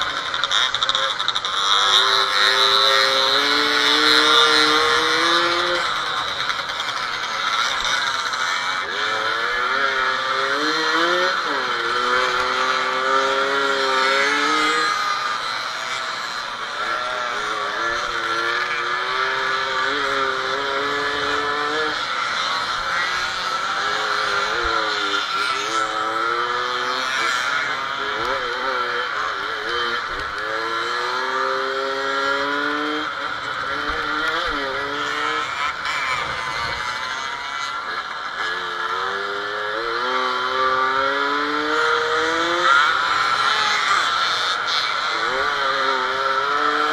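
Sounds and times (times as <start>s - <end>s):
moped engine revving: 0.0s - 46.9s.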